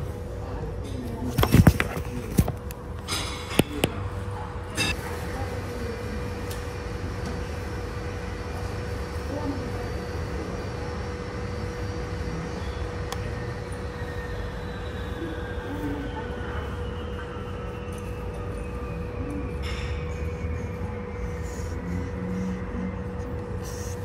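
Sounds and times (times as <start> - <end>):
airport apron rumble and hum: 0.0 - 24.0.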